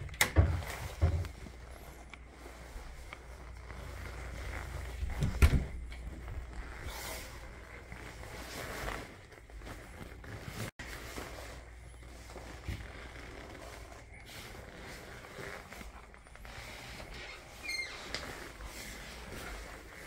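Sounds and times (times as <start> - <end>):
clothing rustle: 0.0 - 20.0.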